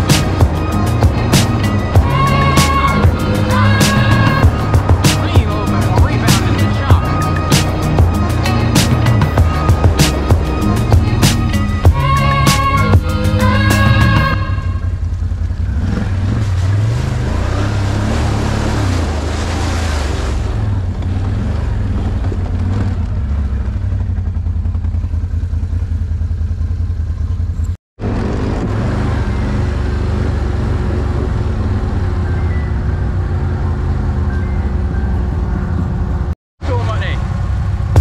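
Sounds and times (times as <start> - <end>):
atv engine revving: 0.0 - 36.3.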